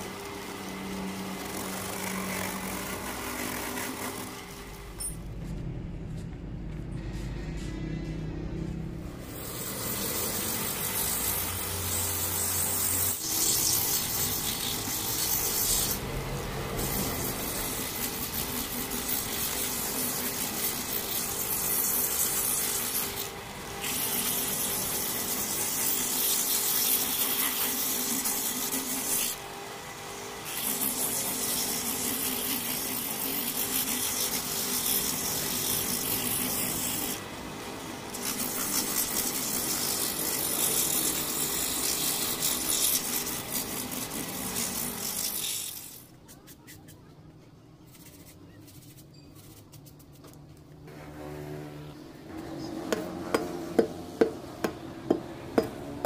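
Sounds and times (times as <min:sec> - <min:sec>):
grinder rasping on rubber: 0:00.0 - 0:04.5, 0:09.2 - 0:29.5, 0:30.4 - 0:37.3, 0:38.1 - 0:47.1, 0:47.8 - 0:55.7.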